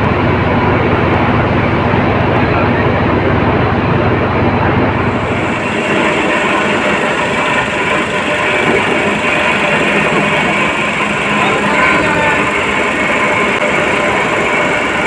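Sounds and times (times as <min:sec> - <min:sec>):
deep hum: 0:00.0 - 0:15.0
faint high whine: 0:00.0 - 0:15.0
foundry machinery noise: 0:00.0 - 0:15.0.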